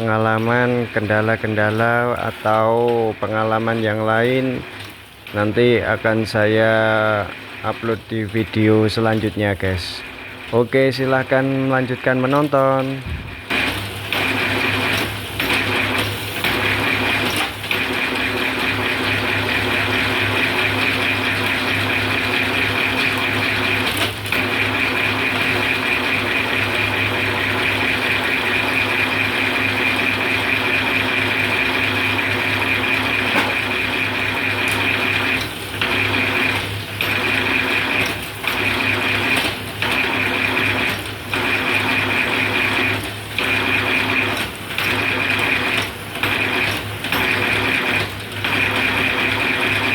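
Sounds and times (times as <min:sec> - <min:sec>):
skewer machine humming and whining: 0:00.0 - 0:49.9.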